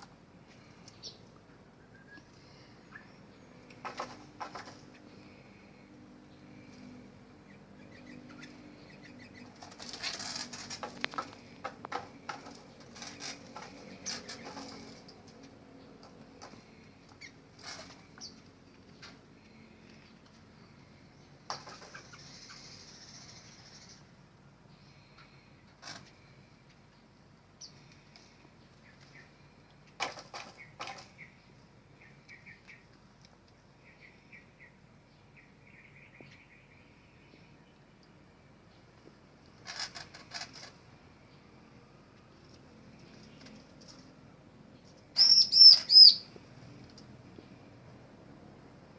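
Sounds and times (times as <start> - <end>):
birds chirping: 0.4 - 39.1, 44.7 - 46.7.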